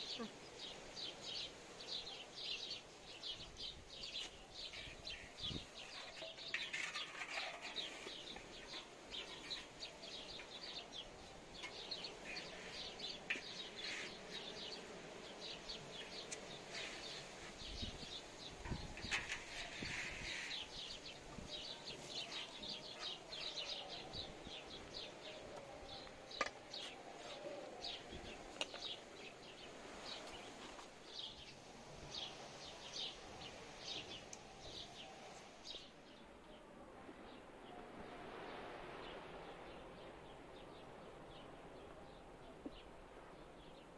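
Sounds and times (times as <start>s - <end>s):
small birds chirping: 0.0s - 37.8s.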